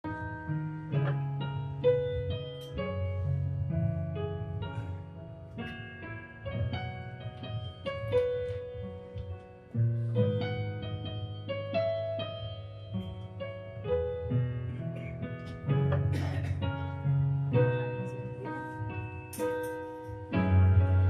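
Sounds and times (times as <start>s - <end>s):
piano chords over bass line: 0.0s - 21.0s.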